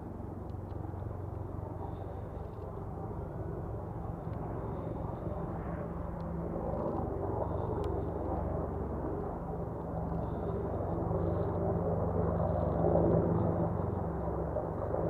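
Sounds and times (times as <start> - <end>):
distant helicopter rotor rumble: 0.0 - 15.0.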